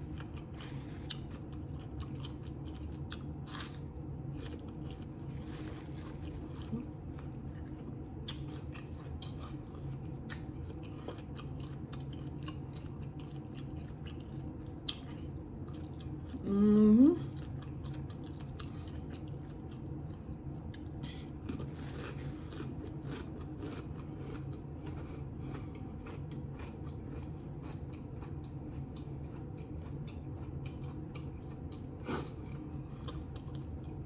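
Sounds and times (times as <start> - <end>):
person chewing crunchy food: 0.0 - 16.4, 17.3 - 34.0.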